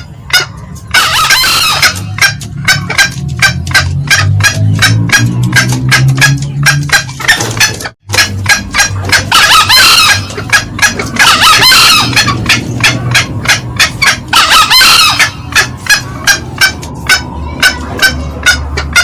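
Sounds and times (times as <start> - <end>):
junglefowl cackling: 0.0 - 19.0
hoarse crowing calls: 0.9 - 7.6, 8.2 - 19.0.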